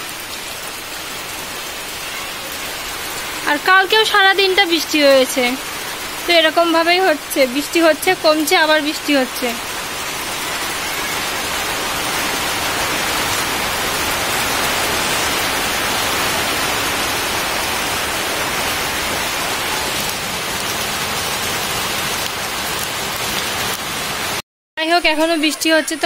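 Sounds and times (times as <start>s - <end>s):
heavy rain on a metal roof: 0.0s - 24.4s.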